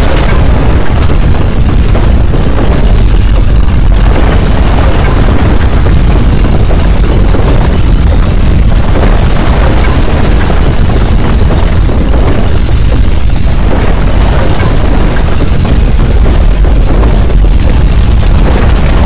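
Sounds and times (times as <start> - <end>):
earthquake rumble: 0.0 - 19.0.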